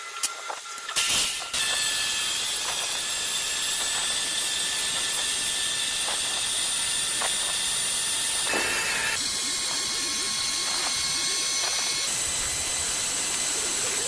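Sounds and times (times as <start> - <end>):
metal lathe hissing and whining: 1.0 - 14.0.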